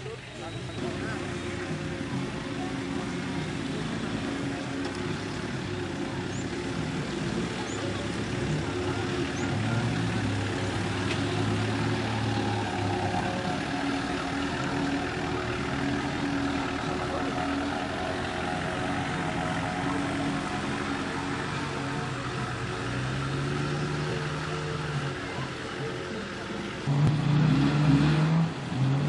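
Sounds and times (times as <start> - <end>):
outdoor background noise: 0.0 - 29.0
engine revving under load: 0.6 - 29.0.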